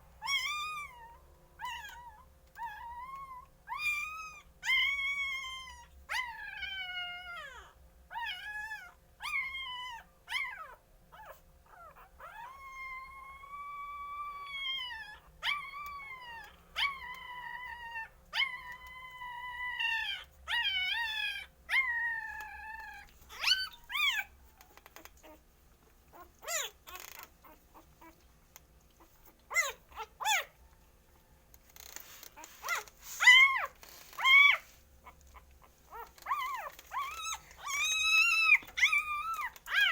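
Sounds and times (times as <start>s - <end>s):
puppies whining and crying: 0.2s - 25.5s, 26.1s - 28.3s, 28.9s - 39.9s.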